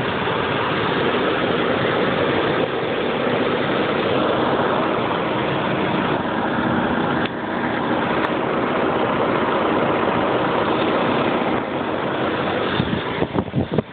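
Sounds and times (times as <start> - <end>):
car engine idling roughly: 0.0 - 13.9.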